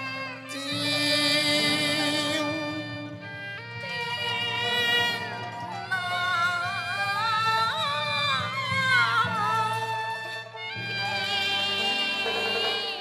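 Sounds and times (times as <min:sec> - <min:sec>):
opera ensemble instrumental music: 0:00.0 - 0:13.0.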